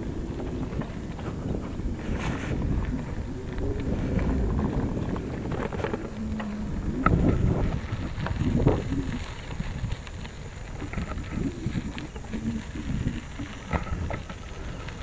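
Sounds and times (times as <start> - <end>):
tyres rumbling on dirt track: 0.0 - 15.0
wind buffeting microphone: 0.0 - 15.0.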